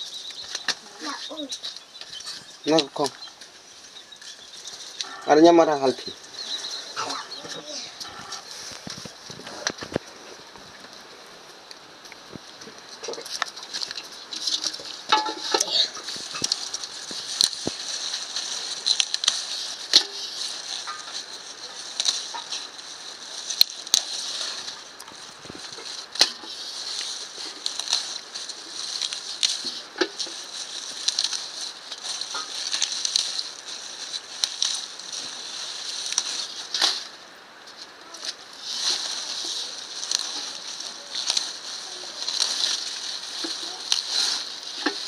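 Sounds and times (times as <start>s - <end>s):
fire crackling and popping: 0.0s - 45.0s.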